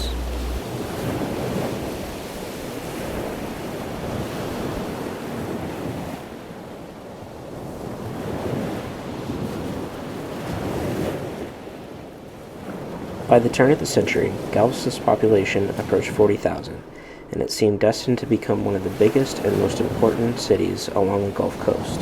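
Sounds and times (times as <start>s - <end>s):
ocean waves washing in: 0.0s - 22.0s.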